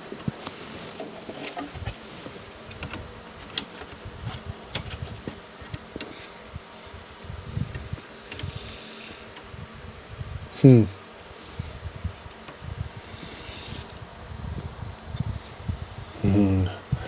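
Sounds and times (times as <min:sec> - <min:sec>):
low electrical buzz: 0:00.0 - 0:17.0.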